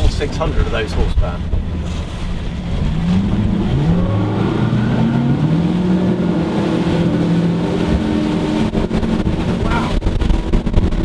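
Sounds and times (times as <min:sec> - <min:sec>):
outboard engines at full throttle: 0:00.0 - 0:11.0.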